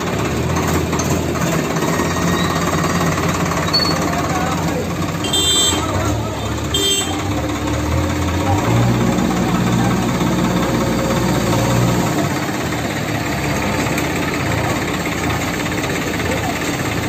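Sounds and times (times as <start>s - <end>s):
backhoe loader working: 0.0s - 17.0s
tractor diesel engine: 0.0s - 17.0s.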